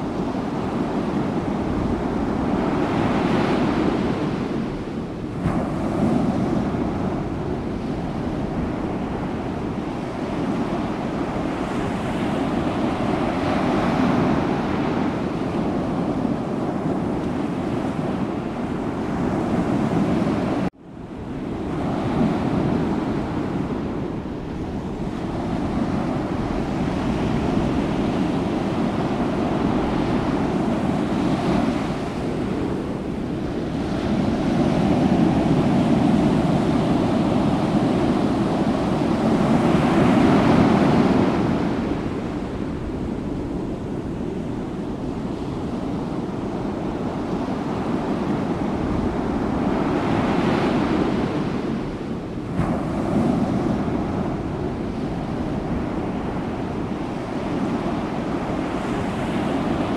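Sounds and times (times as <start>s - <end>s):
sea waves rushing: 0.0s - 59.9s
wind: 0.0s - 59.9s.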